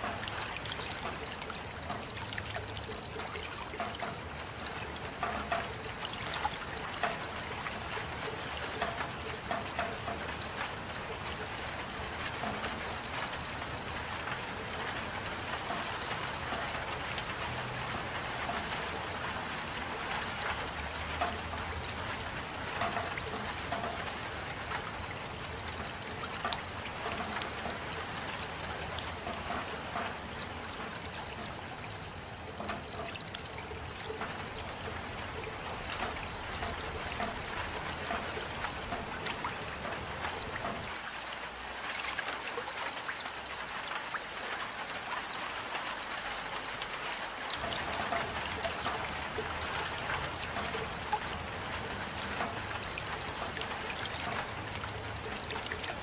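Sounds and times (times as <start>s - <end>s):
steady rainfall: 0.0s - 56.0s
water dripping: 0.0s - 56.0s
water trickling: 0.0s - 56.0s.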